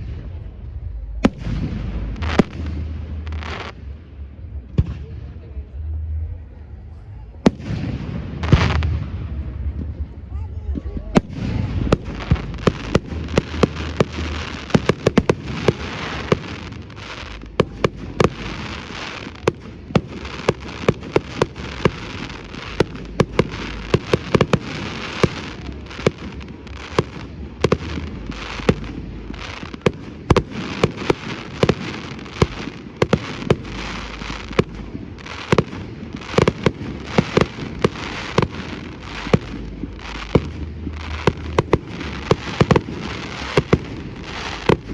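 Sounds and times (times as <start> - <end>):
fireworks crackle: 0.0 - 5.1, 7.4 - 44.9
fireworks bangs: 0.0 - 6.3, 7.4 - 44.9.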